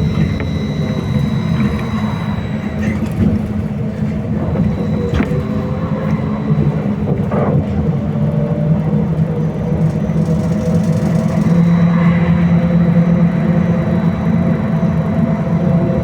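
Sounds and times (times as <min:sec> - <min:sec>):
faint high whine: 0:00.0 - 0:08.2, 0:10.8 - 0:16.0
trolleybus running rumble: 0:00.0 - 0:16.0.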